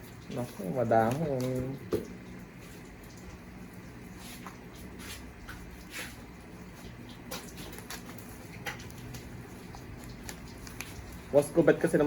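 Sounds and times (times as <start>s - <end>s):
plant and packing rustling: 0.2s - 2.0s, 4.0s - 12.0s.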